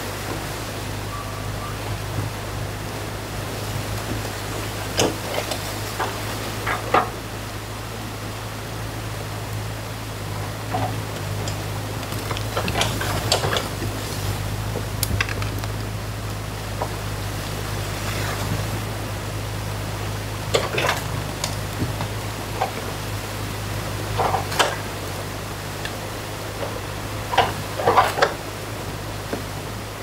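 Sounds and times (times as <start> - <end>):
excavator diesel engine droning: 0.0 - 30.0
water rushing through a dam: 0.0 - 30.0.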